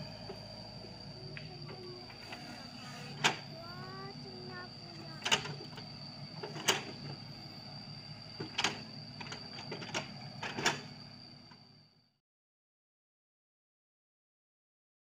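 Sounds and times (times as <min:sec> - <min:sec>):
excavator running with high whine: 0:00.0 - 0:12.2.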